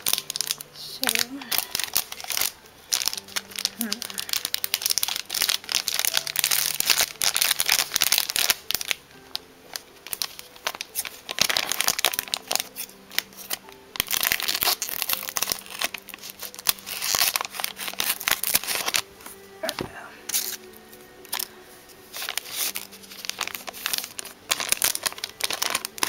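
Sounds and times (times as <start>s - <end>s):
plastic wrap crinkling: 0.0s - 26.0s
soft background music: 0.0s - 26.0s.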